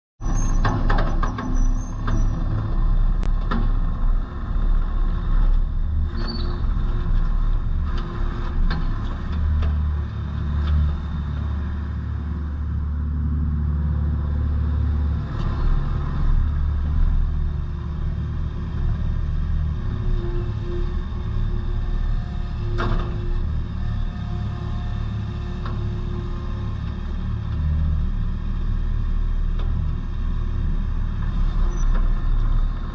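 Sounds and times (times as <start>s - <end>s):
diesel engine running: 0.2s - 32.9s.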